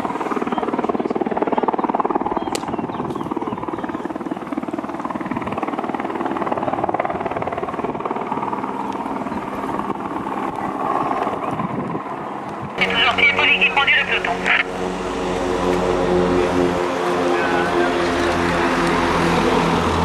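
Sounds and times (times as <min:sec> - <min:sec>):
helicopter rotor beating: 0:00.0 - 0:20.0.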